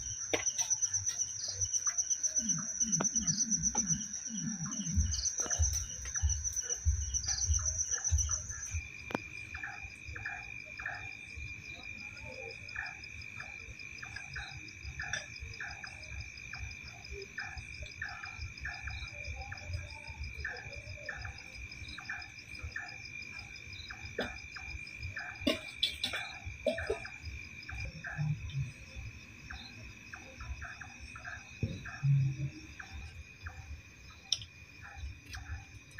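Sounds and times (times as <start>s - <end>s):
crickets trilling: 0.0s - 35.9s
frogs croaking: 0.0s - 35.9s.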